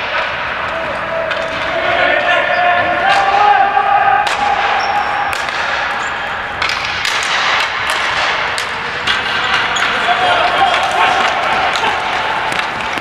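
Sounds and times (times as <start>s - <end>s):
hockey sticks knocking: 0.0s - 13.0s.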